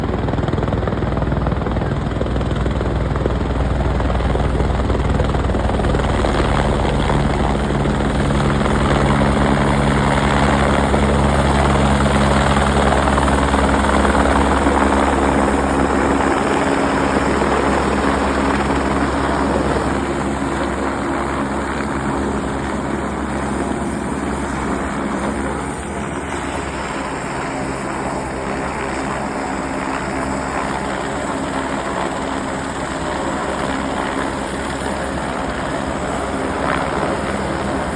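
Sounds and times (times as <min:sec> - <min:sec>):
helicopter rotor and engine: 0:00.0 - 0:37.9.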